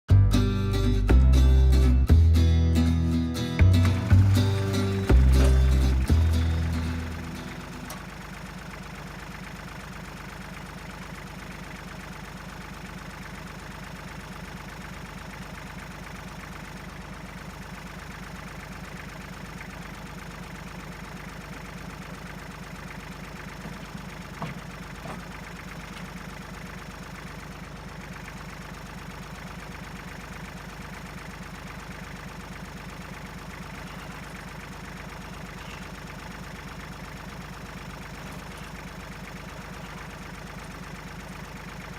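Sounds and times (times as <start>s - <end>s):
engine idling: 0.1s - 41.9s.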